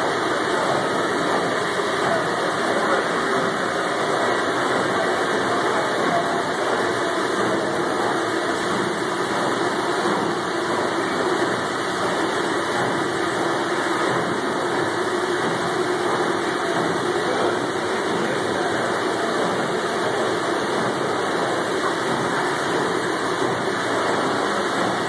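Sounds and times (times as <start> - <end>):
steam engine room machinery: 0.0 - 25.0.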